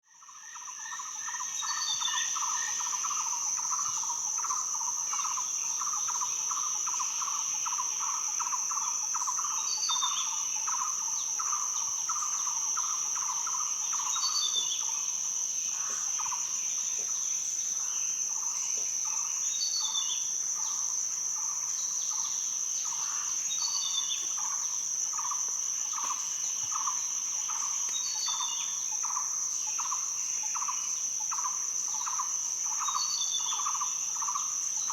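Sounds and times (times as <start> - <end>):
cicadas and insects droning: 0.0 - 34.9.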